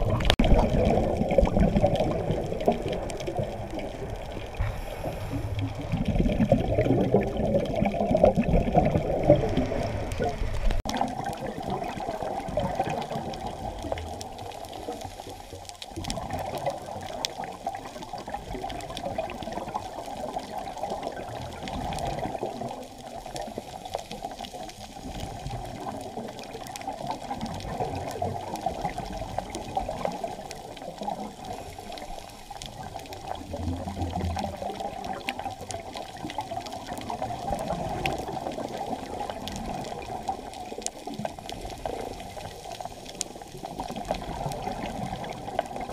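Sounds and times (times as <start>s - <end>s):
muffled underwater bubbling: 0.0s - 45.9s
underwater water rush: 0.0s - 45.9s.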